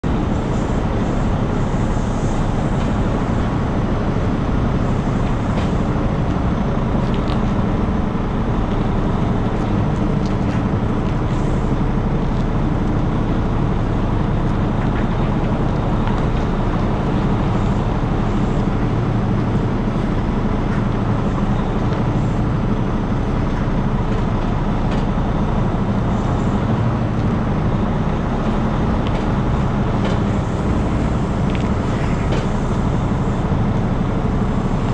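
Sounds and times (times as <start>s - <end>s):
diesel truck engine rumbling: 0.0s - 34.9s.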